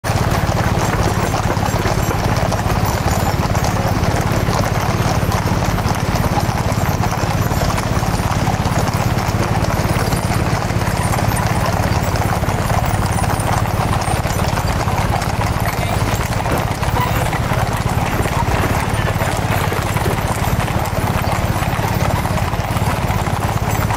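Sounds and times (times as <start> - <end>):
horses hooves clip-clopping on pavement: 0.0 - 23.9.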